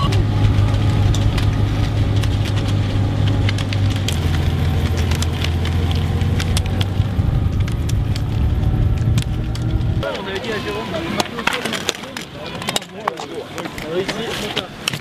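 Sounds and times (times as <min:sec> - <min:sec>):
vehicle engine hum: 0:00.0 - 0:12.7.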